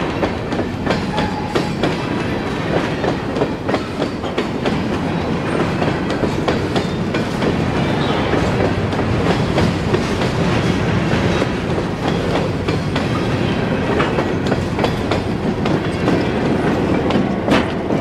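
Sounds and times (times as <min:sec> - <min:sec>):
freight train rumbling past: 0:00.0 - 0:18.0
wheels clicking over rail joints: 0:00.0 - 0:18.0.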